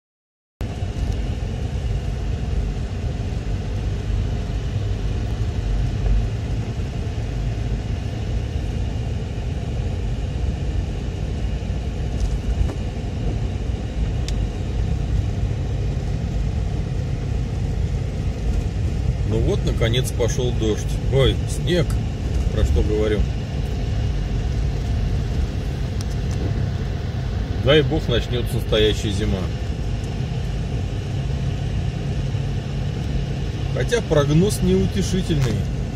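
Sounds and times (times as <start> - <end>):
car driving on snowy road: 0.6 - 35.9.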